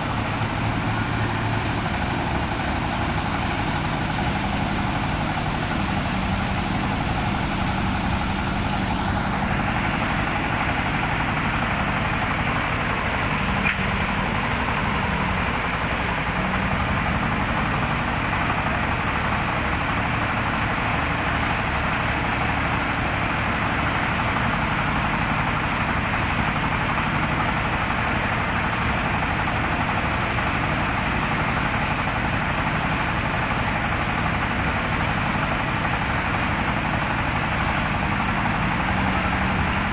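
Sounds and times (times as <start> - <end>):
threshing machine running: 0.0 - 39.9.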